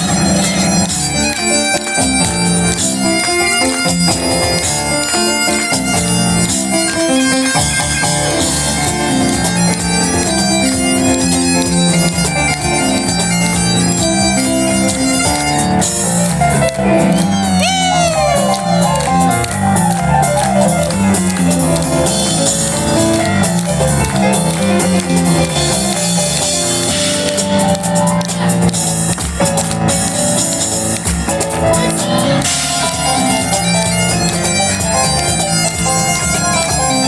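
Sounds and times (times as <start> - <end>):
bagpipes playing fast melody: 0.0 - 37.0
driving piano: 0.0 - 37.0.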